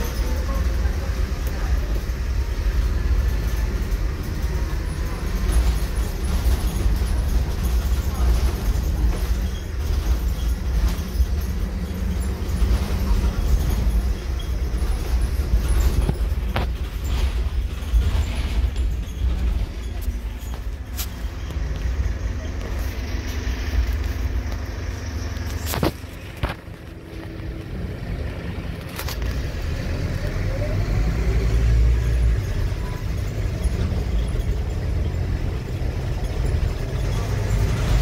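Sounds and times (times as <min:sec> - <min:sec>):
bus engine drone: 0:00.0 - 0:38.0
road noise: 0:00.0 - 0:38.0.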